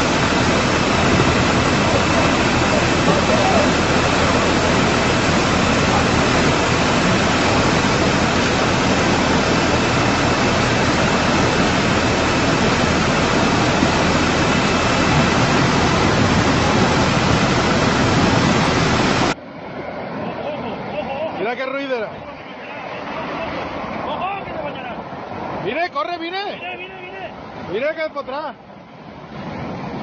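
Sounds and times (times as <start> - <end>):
rushing floodwater roar: 0.0 - 30.0.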